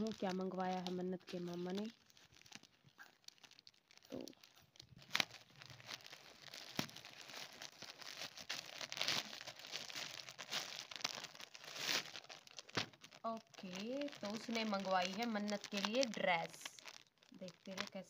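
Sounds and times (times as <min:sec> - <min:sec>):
plastic bag crinkling and tearing: 0:00.0 - 0:18.0.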